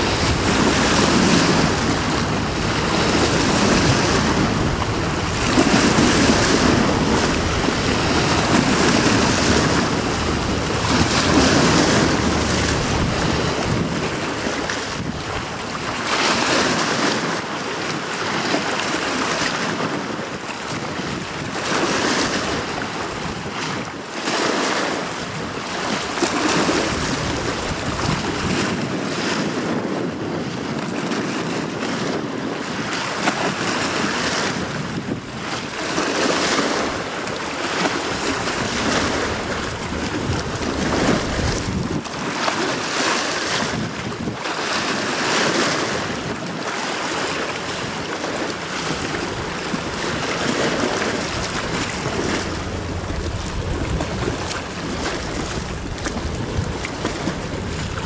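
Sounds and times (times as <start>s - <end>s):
rushing water: 0.0s - 58.0s
wind buffeting microphone: 0.0s - 58.0s.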